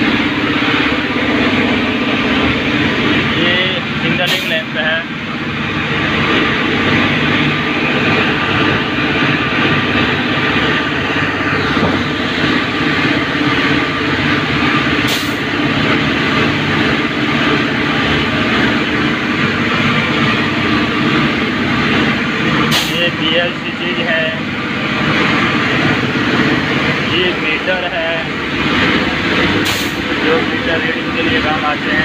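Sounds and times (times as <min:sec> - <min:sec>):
locomotive machinery hum and whine: 0:00.0 - 0:32.0.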